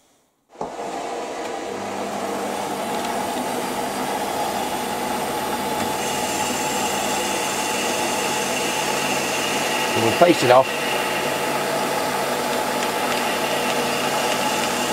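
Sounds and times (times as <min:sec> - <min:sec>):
metal lathe running: 0:01.7 - 0:14.9.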